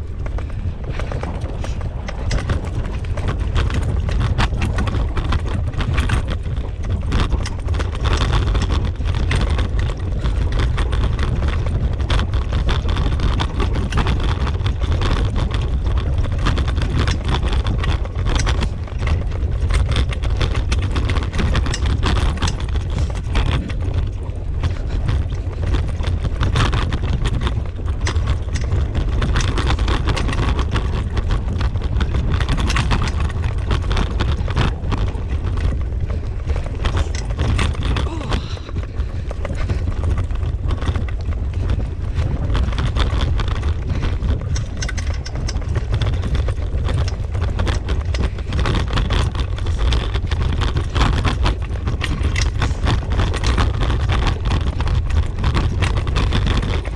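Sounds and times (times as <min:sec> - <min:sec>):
clicks and rattles: 0:00.0 - 0:56.9
low rumble of trail movement: 0:00.0 - 0:56.9
wind on microphone: 0:00.0 - 0:56.9.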